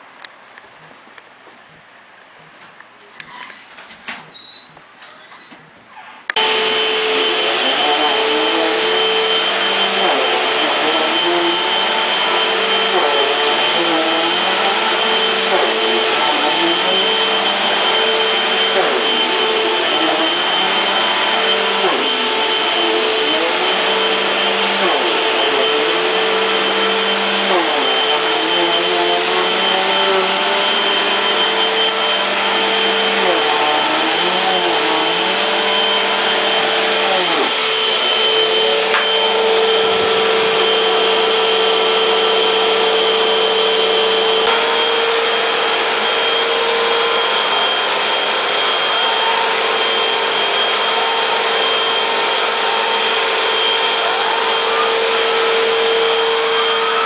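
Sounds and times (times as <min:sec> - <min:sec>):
vacuum cleaner running on carpet: 0:06.4 - 0:57.0.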